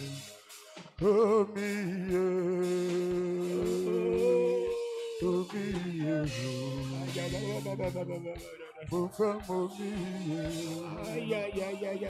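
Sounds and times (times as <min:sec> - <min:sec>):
man singing held notes: 0:00.0 - 0:00.4, 0:01.0 - 0:12.0
instrumental backing with low beat: 0:00.0 - 0:12.0.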